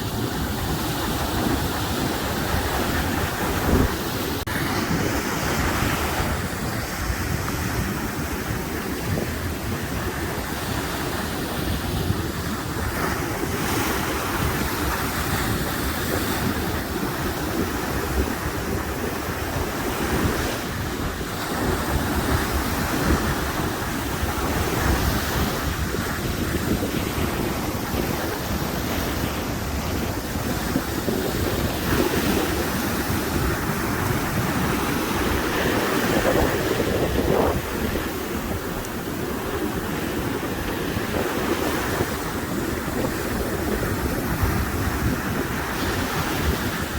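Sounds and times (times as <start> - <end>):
waves breaking on shore: 0.0 - 46.9
wind buffeting microphone: 0.0 - 46.9.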